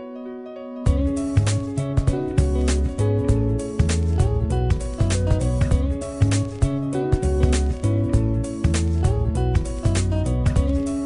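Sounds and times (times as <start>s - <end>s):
background music with steady beat: 0.9s - 11.0s.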